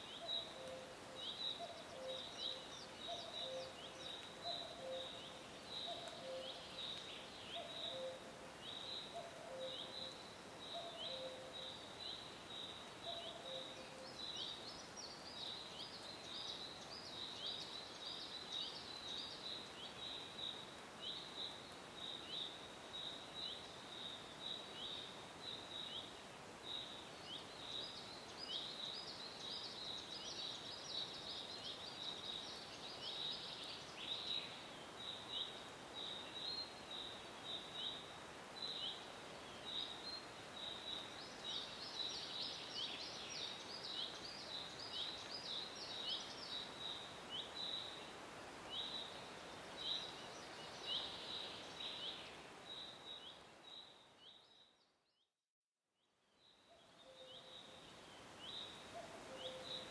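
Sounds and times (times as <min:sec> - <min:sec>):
faint steady hiss: 0:00.0 - 0:55.2, 0:56.0 - 0:59.9.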